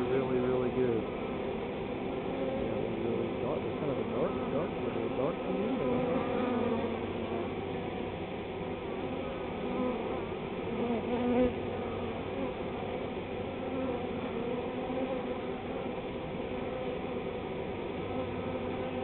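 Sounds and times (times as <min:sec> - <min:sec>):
bee flying close by: 0:00.0 - 0:19.0
bee swarm buzzing: 0:00.0 - 0:19.0.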